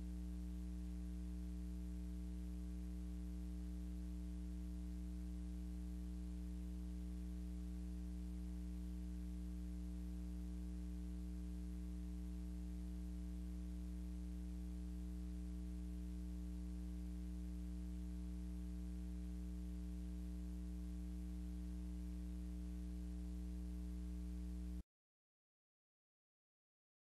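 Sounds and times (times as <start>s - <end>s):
low electrical hum: 0.0s - 24.8s.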